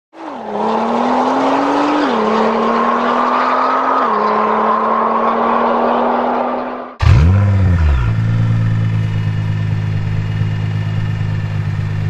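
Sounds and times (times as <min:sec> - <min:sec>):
car engine accelerating: 0:00.2 - 0:12.0.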